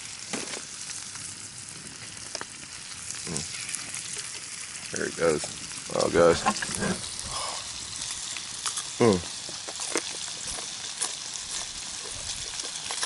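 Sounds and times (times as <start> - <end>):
bacon sizzling in a skillet: 0.0 - 13.0.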